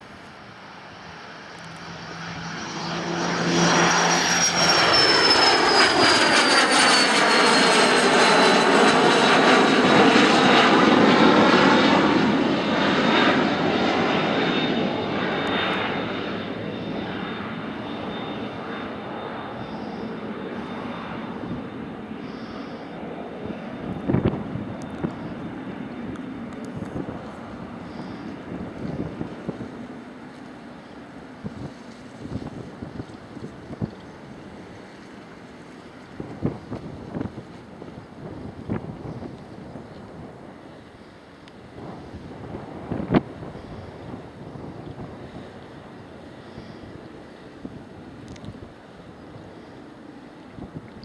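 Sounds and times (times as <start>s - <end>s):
jet aircraft passing by: 0.1s - 51.0s.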